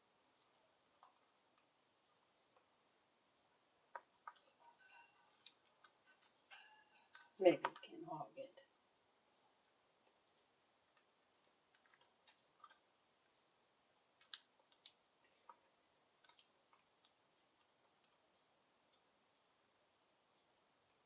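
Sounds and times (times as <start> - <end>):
beaks pecking at food: 0.4 - 8.0, 9.2 - 20.6.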